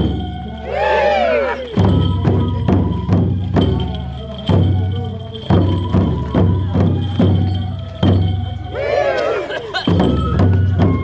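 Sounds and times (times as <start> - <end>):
deep drum beats: 0.0 - 11.0.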